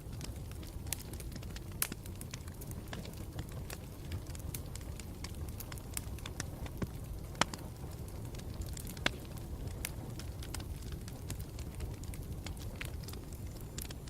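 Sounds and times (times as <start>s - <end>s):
campfire crackling and popping: 0.0s - 14.0s
low rumble of fire: 0.0s - 14.0s.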